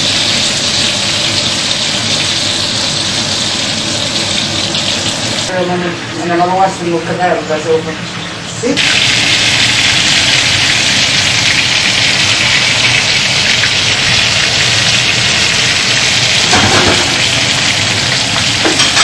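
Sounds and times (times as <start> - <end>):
oil sizzling and crackling: 0.0 - 6.1, 7.6 - 19.0.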